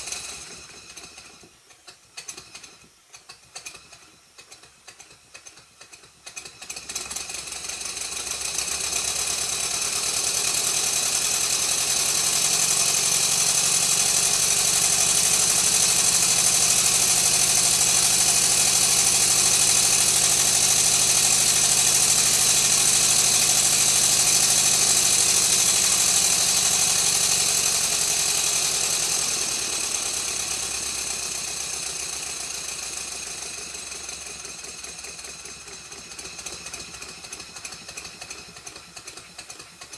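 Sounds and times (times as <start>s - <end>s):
model steam engine running: 0.0s - 39.9s
rapid exhaust hiss: 0.0s - 39.9s.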